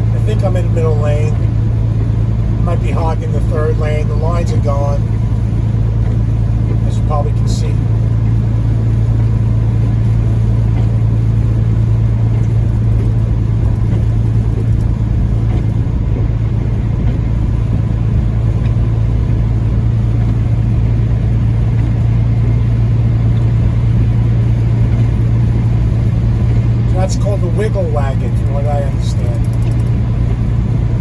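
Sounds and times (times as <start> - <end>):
diesel engine low hum: 0.0 - 31.0
tyre and road noise: 0.0 - 31.0.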